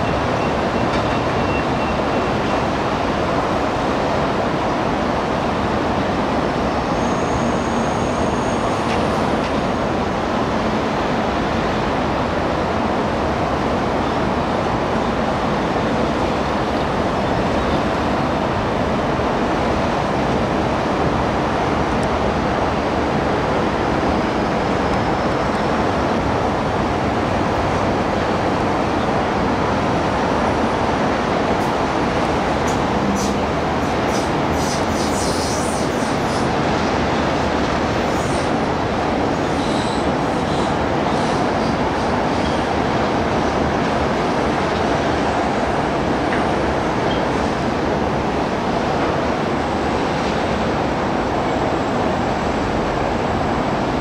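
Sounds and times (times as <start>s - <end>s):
metro train on elevated track: 0.0s - 54.0s
road traffic: 0.0s - 54.0s.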